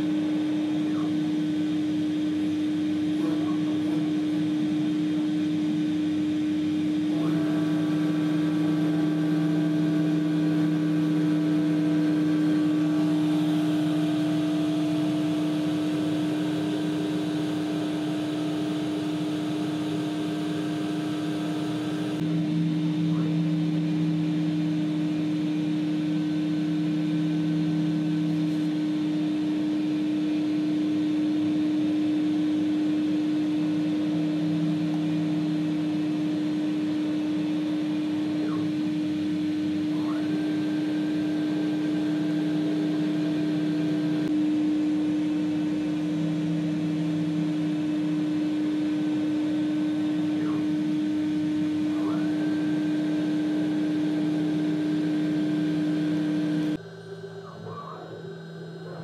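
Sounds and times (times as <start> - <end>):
high cutting whine: 0.0 - 59.0
router spindle hum: 0.0 - 59.0.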